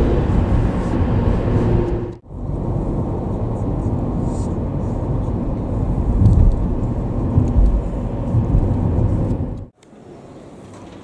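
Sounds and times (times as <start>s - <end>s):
car interior road and engine rumble: 0.0s - 9.8s.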